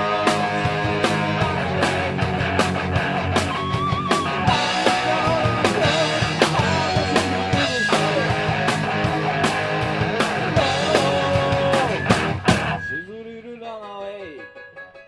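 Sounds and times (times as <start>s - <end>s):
drum kit: 0.0s - 13.0s
electric guitar: 0.0s - 13.0s.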